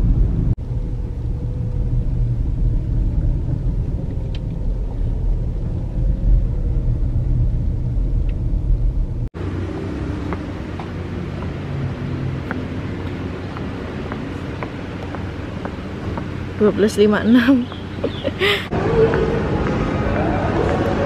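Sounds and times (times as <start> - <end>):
car interior engine and road noise: 0.0 - 21.0.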